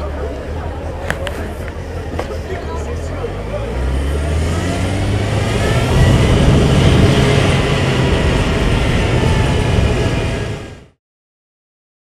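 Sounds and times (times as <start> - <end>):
motorcycle engine rumble: 0.0 - 11.0
wind and road noise: 0.0 - 11.0.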